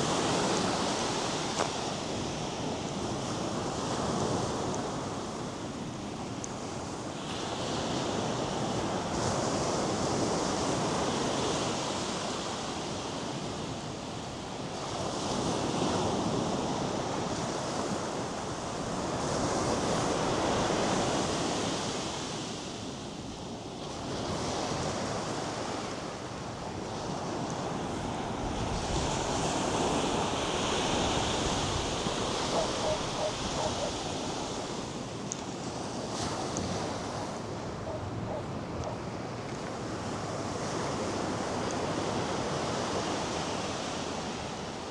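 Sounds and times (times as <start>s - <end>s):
wind: 0.0s - 44.9s.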